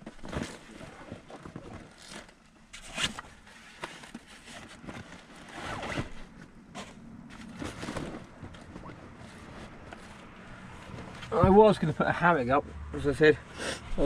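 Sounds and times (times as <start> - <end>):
rucksack fabric rustling and scraping: 0.0 - 12.0.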